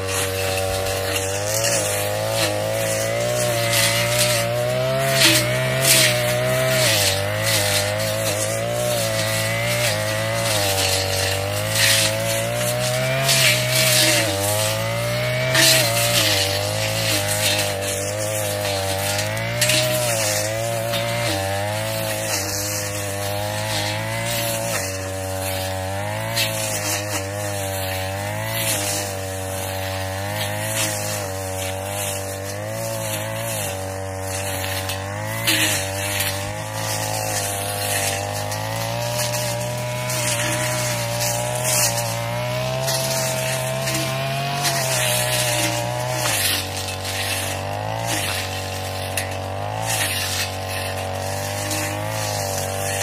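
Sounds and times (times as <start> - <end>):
brush cutter engine running: 0.0 - 53.0
swish of cut vegetation: 0.0 - 53.0.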